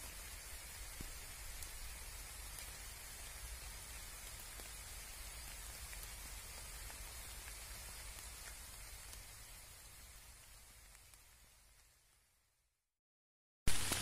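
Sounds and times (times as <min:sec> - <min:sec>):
faint rain falling: 0:00.0 - 0:12.9, 0:13.7 - 0:14.0.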